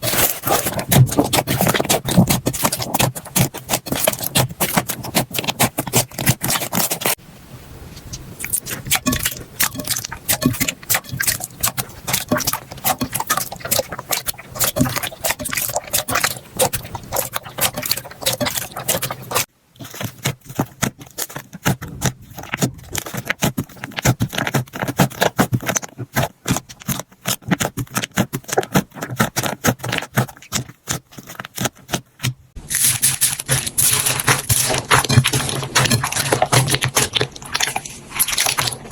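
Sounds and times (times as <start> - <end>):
slime squishing: 0.0 - 7.2, 8.2 - 38.9.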